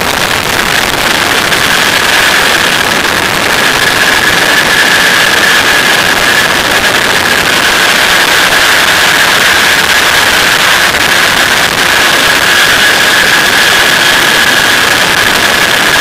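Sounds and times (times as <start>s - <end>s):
engine and propeller noise: 0.0s - 16.0s
high whine: 0.0s - 16.0s
rushing wind: 0.0s - 16.0s.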